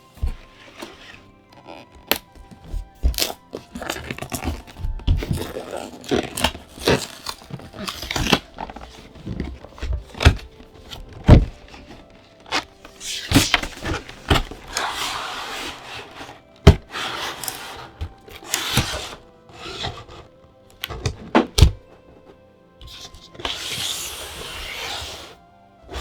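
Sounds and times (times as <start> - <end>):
packaging taps and thuds: 0.0 - 24.1
packaging scraping and rustling: 0.0 - 26.0.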